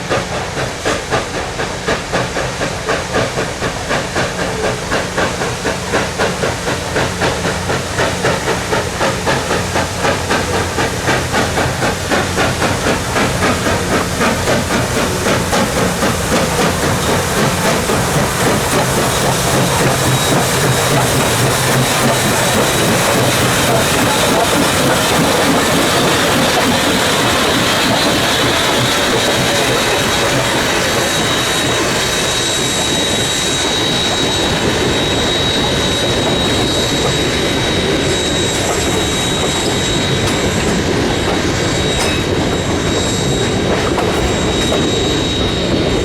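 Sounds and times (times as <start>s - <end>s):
steam locomotive exhaust chuffs: 0.0s - 46.0s.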